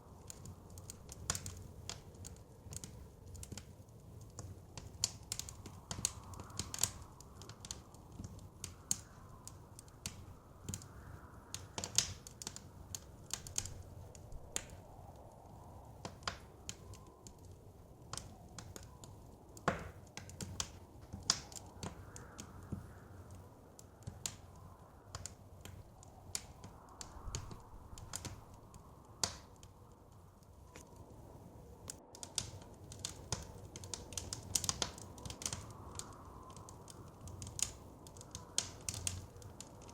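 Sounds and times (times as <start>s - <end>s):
soft wind: 0.0s - 39.9s
wood fire crackling: 0.0s - 39.9s.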